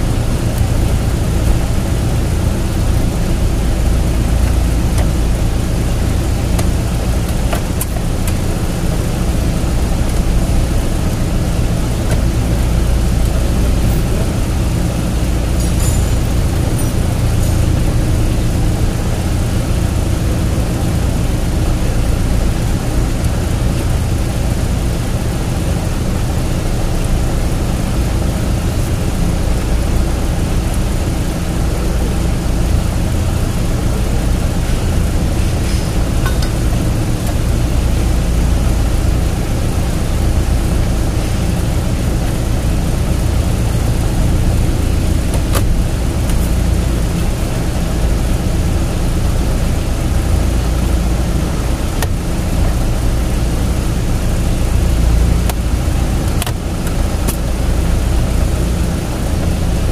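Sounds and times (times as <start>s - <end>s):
low mechanical drone: 0.0s - 59.9s.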